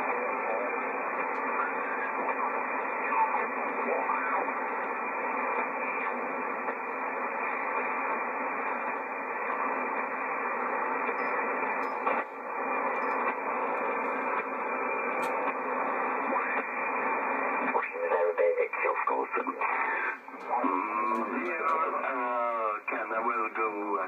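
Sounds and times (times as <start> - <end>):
radio click: 0.0 - 22.3
radio static hiss: 0.0 - 24.0.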